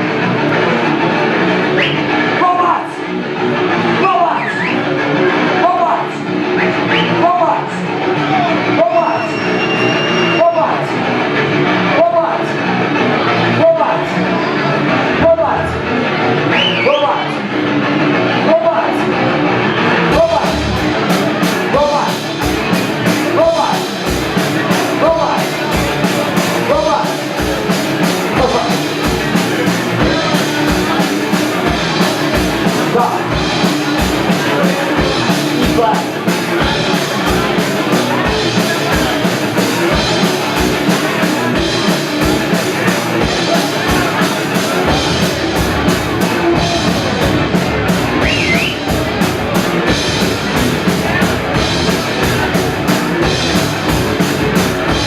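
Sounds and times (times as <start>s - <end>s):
fast rock music with singing: 0.0s - 55.0s.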